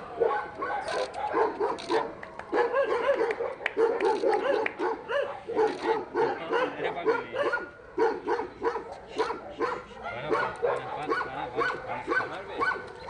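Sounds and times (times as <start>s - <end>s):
dogs barking: 0.1s - 13.0s.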